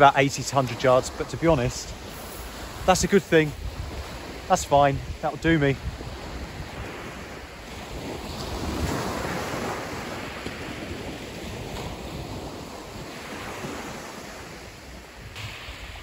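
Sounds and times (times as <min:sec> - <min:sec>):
small waves breaking on beach: 0:00.0 - 0:16.0
wind on microphone: 0:00.6 - 0:16.0.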